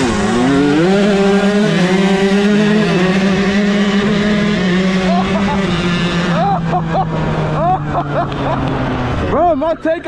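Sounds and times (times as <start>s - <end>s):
dirt bike engine revving: 0.0s - 9.4s
dirt bike engine high drone: 0.0s - 10.0s.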